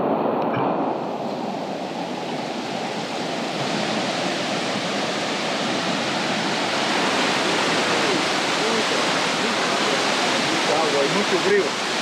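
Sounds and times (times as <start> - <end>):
rushing stream and waterfall: 0.0 - 12.0.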